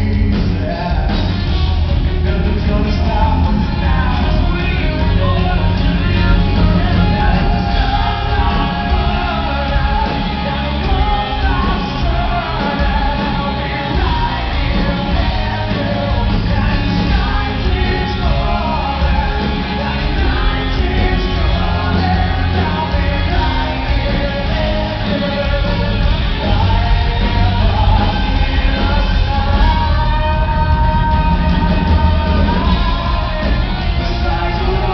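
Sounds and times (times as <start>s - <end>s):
live rock band: 0.0s - 34.9s
male lead vocal: 0.0s - 34.9s.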